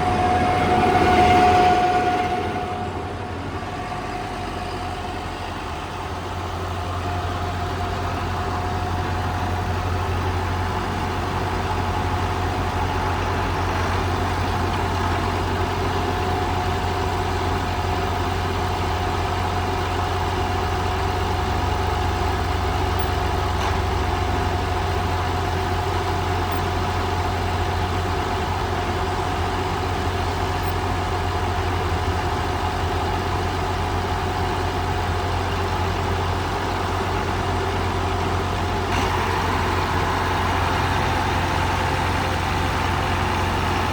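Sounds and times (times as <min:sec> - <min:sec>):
tractor diesel engine idling: 0:00.0 - 0:43.9.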